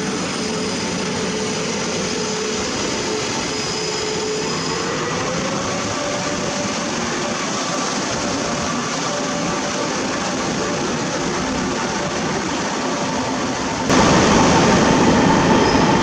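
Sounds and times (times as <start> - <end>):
train motor whine: 0.0 - 16.0
train rumble and wheel noise: 0.0 - 16.0.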